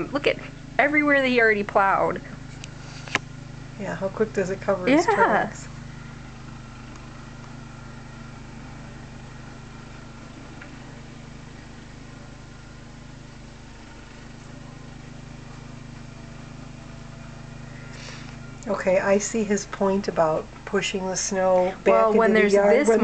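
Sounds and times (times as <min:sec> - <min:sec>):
muffled tractor engine running: 0:00.0 - 0:23.0.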